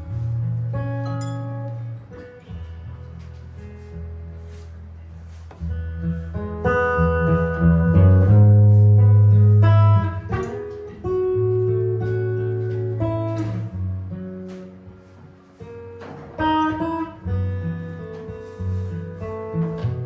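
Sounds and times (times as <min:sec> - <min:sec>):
solo jazz guitar: 0:00.0 - 0:20.0.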